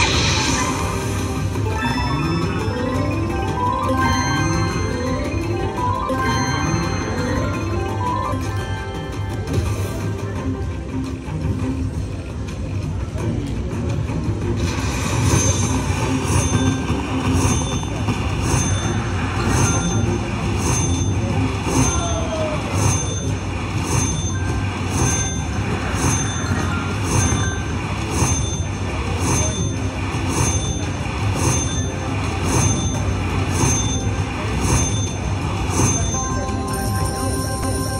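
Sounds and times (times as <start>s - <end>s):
electronic slot machine chime: 0.0s - 10.8s, 14.8s - 37.9s
steady low rumble: 0.0s - 37.8s.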